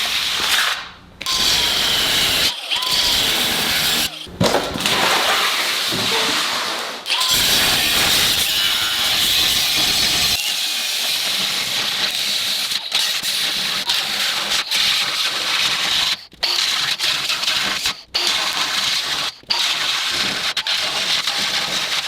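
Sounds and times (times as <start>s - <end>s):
angle grinder cutting steel: 0.0s - 22.0s.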